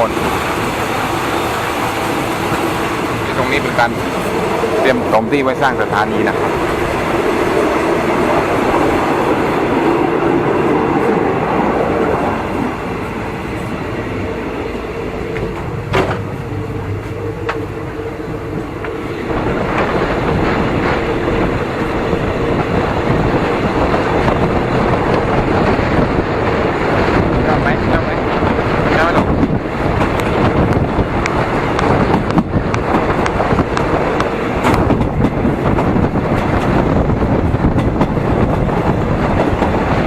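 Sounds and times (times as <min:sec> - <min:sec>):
train rumbling on track: 0:00.0 - 0:40.0.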